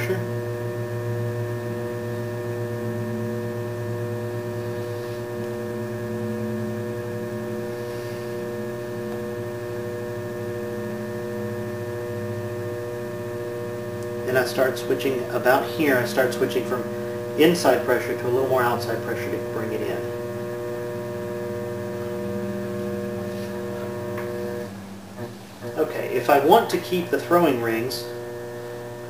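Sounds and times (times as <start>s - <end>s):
potter's wheel humming: 0.0s - 29.0s.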